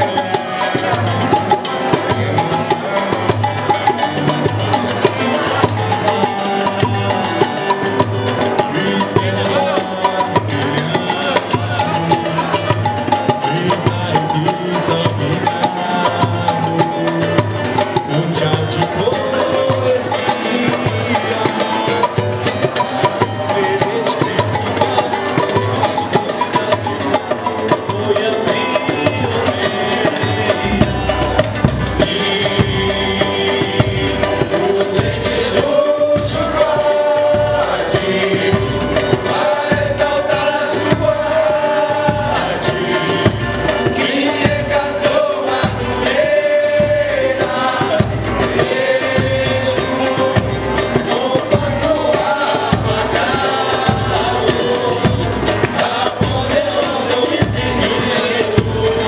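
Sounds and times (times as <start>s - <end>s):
bass drum beat: 0.0s - 59.0s
group singing: 0.0s - 59.0s
guitar: 0.0s - 59.0s
small guitar strumming: 0.0s - 59.0s.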